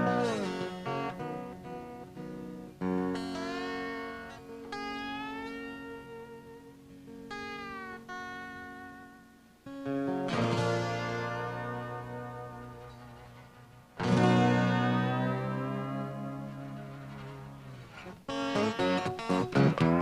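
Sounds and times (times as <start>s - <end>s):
acoustic guitar playing blues: 0.0s - 20.0s.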